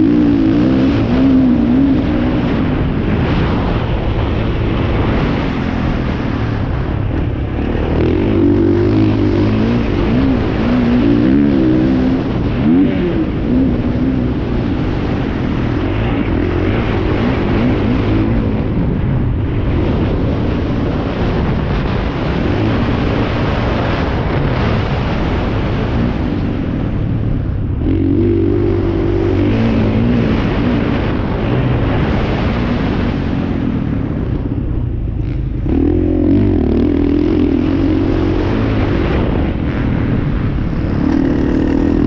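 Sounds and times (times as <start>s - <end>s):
motorbike engines revving: 0.0s - 42.0s.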